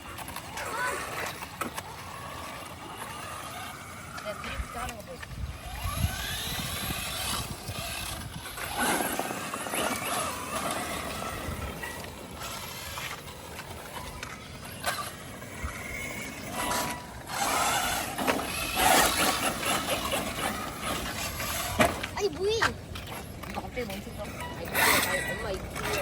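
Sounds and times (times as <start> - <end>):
rc car motor whining: 0.0 - 26.0
wheels on wet ground: 0.0 - 26.0.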